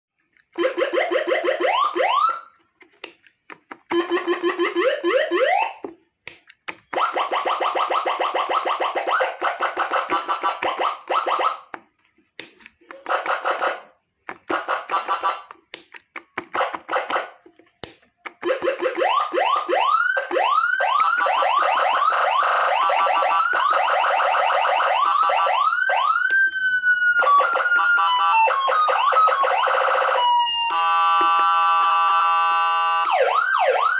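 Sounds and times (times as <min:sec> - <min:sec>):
electronic siren wailing and yelping: 0:00.6 - 0:02.5, 0:03.9 - 0:05.8, 0:06.9 - 0:11.8, 0:13.0 - 0:15.5, 0:16.6 - 0:17.4, 0:18.4 - 0:33.9.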